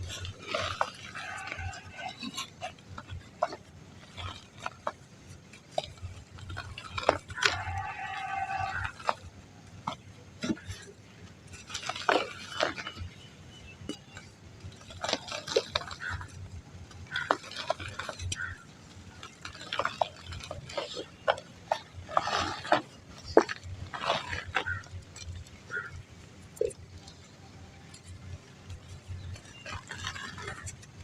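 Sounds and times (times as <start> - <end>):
dry mud crumbling by hand: 0.0 - 31.0.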